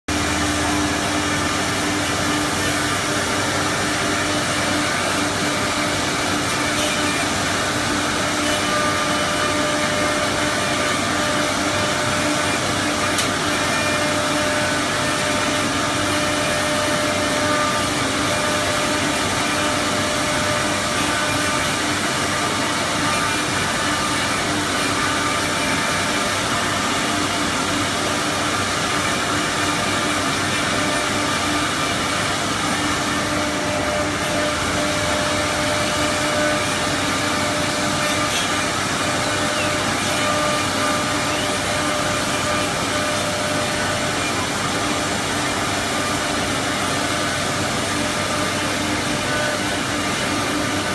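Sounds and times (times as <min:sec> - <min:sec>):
machine router whirring: 0:00.1 - 0:50.9.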